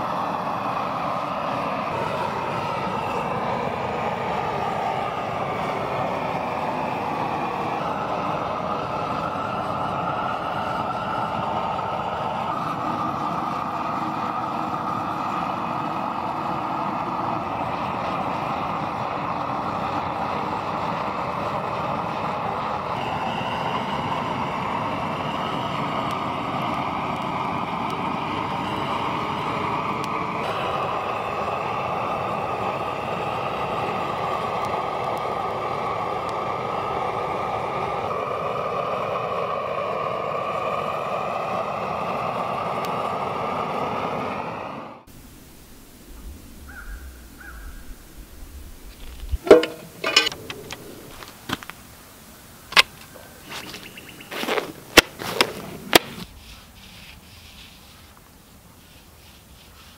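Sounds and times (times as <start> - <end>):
propane torch burning: 0.0 - 59.9.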